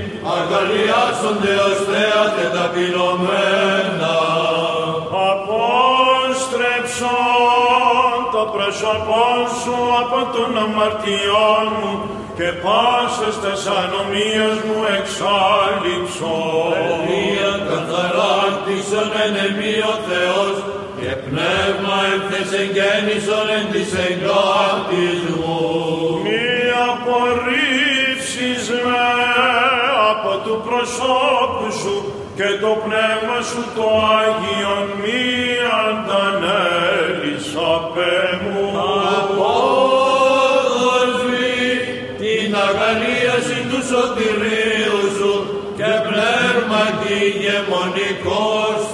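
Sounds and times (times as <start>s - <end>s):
men chanting a slow melody: 0.0s - 48.9s.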